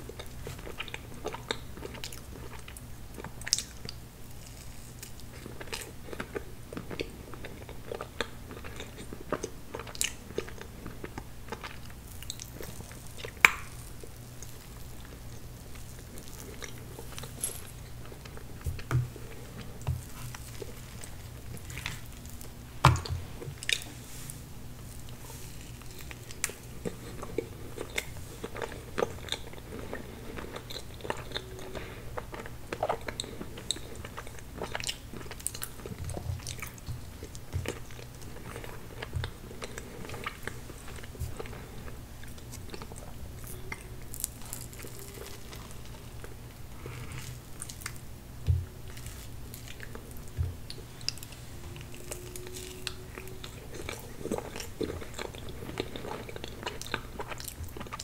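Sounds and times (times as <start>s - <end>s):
wet chewing and mouth clicks: 0.0s - 24.0s, 24.8s - 58.0s.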